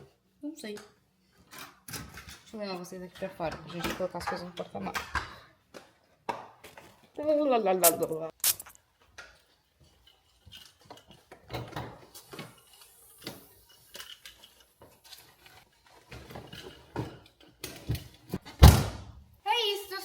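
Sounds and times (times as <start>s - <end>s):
objects knocking and clattering: 0.8s - 18.9s.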